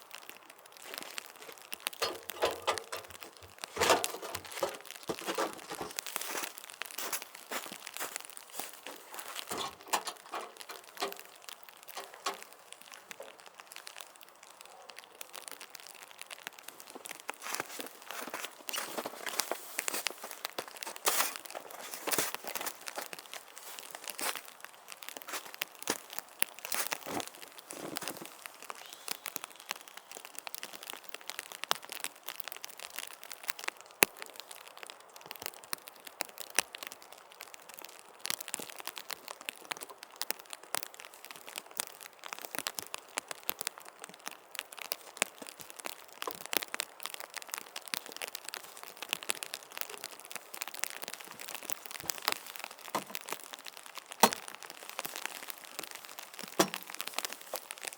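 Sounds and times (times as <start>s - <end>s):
heavy rain falling: 0.0s - 57.9s
sharp raindrop taps: 0.1s - 14.6s, 15.4s - 57.9s.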